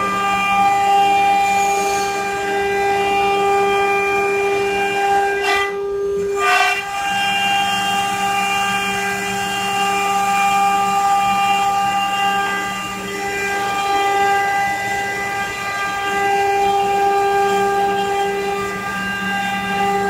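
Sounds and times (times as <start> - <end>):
spindle motor high whine: 0.0 - 20.0.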